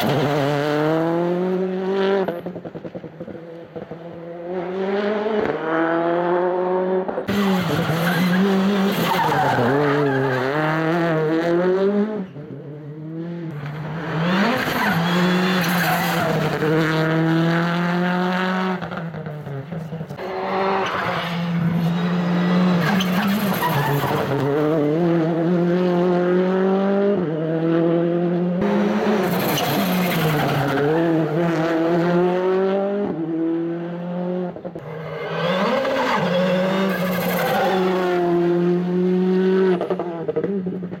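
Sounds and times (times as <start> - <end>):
rally car engine accelerating: 0.0 - 41.0.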